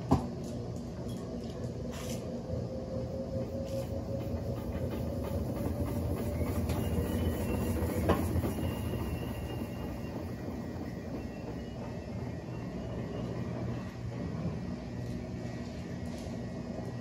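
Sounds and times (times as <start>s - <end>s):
washing machine spinning: 2.6s - 17.0s.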